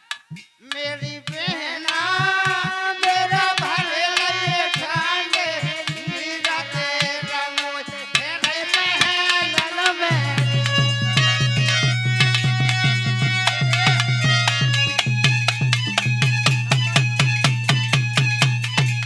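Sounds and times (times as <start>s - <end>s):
barrel drum beats: 0.0s - 19.0s
harmonium melody: 0.0s - 19.0s.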